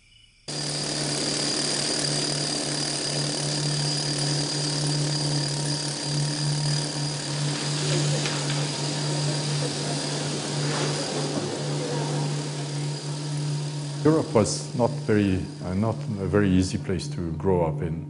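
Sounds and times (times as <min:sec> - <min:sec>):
engine hum: 0:00.5 - 0:18.0.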